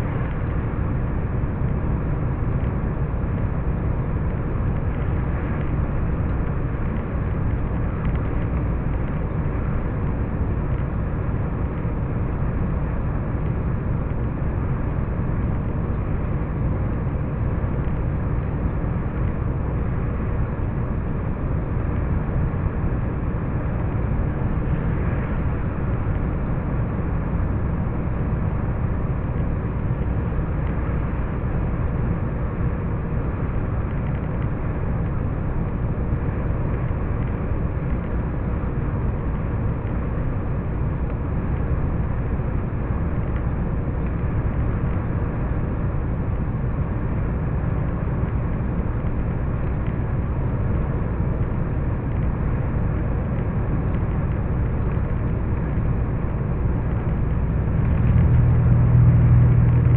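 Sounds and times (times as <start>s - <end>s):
faint steady hum: 0.0s - 59.9s
vehicle engine and tyre rumble: 0.0s - 59.9s.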